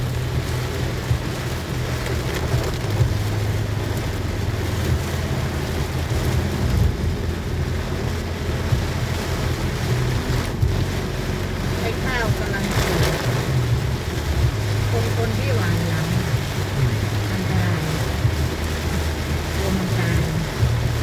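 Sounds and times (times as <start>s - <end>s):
heavy rain: 0.0s - 21.0s
vehicle driving rumble: 0.0s - 21.0s.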